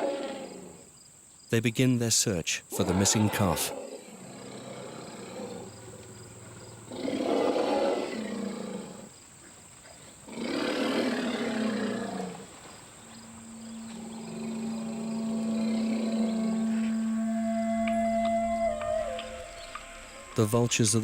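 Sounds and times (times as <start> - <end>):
loud animal roars: 0.0 - 0.8, 2.7 - 9.1, 10.3 - 20.7.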